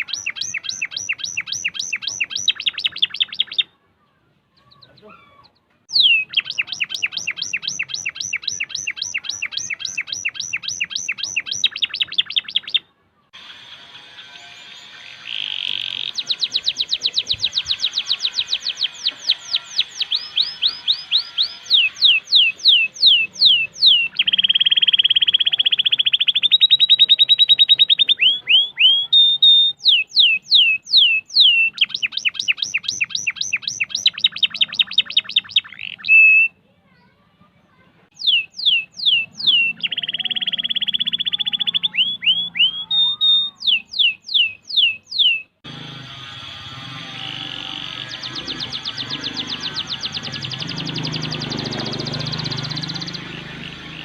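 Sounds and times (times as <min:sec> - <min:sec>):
canary singing trills: 0:00.0 - 0:36.6, 0:38.1 - 0:54.0.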